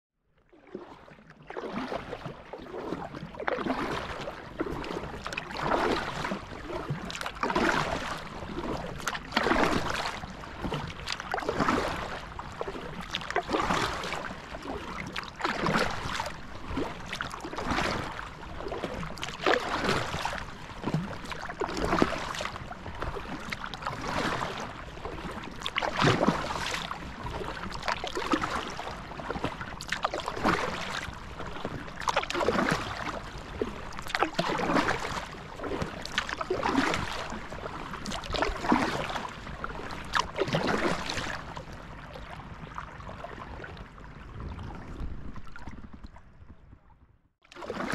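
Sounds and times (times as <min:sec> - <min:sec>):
water lapping against hull: 0:00.3 - 0:47.9
paddle splashing in water: 0:00.5 - 0:46.7, 0:47.4 - 0:47.9.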